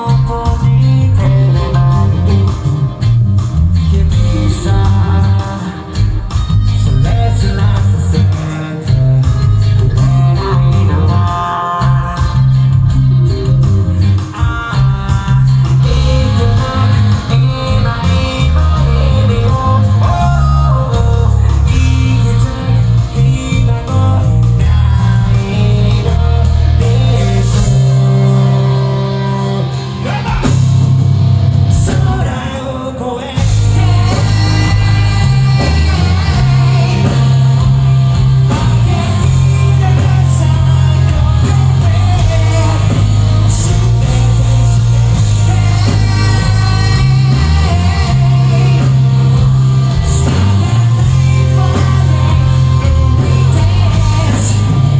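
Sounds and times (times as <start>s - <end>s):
person singing: 0.0s - 31.0s, 31.7s - 54.9s
heavy rock band playing: 0.0s - 54.9s.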